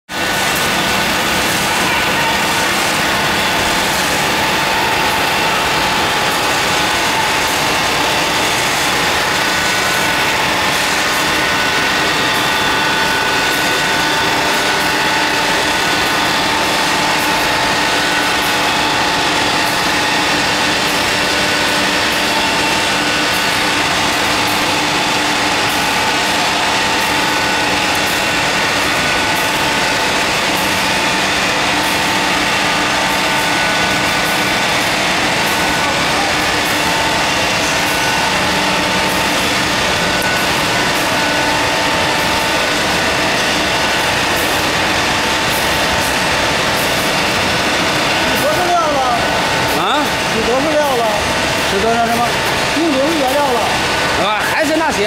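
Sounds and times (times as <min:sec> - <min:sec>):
industrial machine noise: 0:00.0 - 0:55.0
machine whine: 0:00.1 - 0:55.0.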